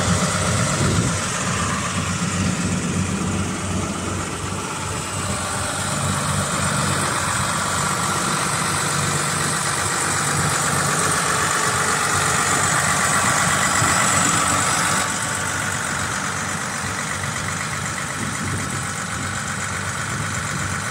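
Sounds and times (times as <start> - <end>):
tractor diesel engine idling: 0.0 - 20.9.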